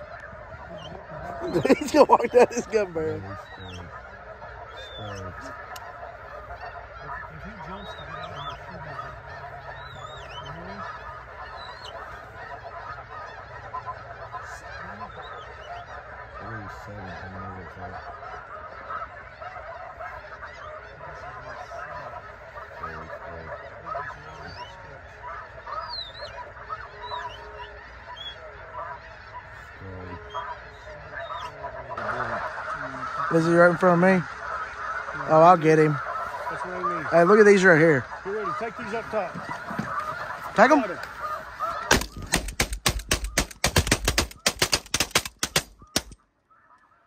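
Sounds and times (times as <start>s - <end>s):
geese honking: 0.0s - 47.0s.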